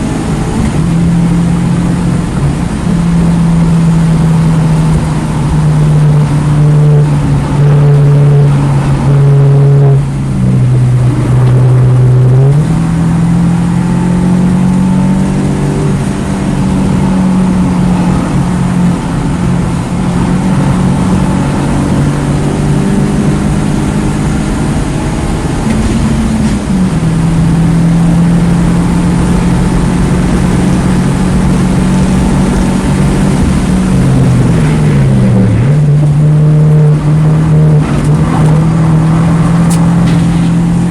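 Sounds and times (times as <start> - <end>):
car engine running hard: 0.0 - 40.9.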